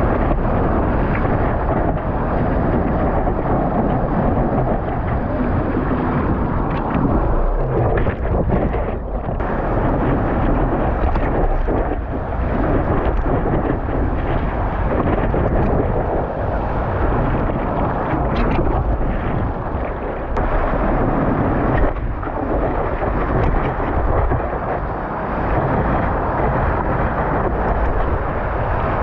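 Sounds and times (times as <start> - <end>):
water splashing against board: 0.0 - 24.6
breaking surf: 0.0 - 29.0
wind buffeting camera: 0.0 - 29.0.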